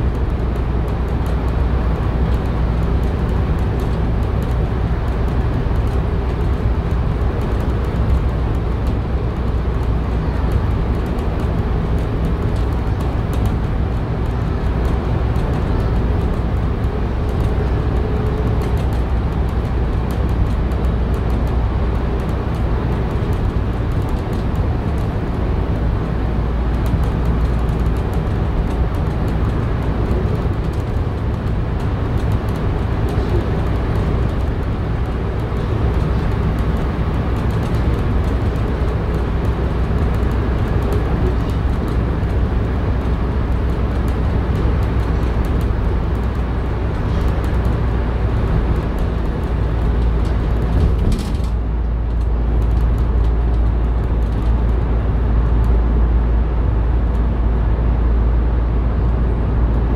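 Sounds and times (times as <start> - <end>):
bus drivetrain and road rumble: 0.0 - 59.9.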